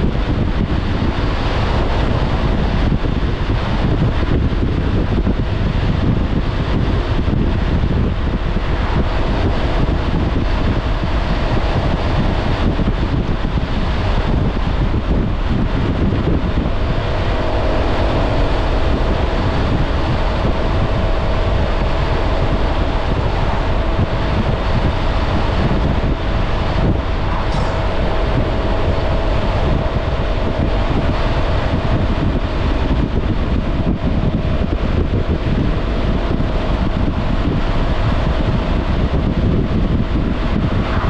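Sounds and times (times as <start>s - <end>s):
road noise: 0.0s - 41.0s
wind buffeting microphone: 0.0s - 41.0s
scooter engine cruising: 6.2s - 41.0s.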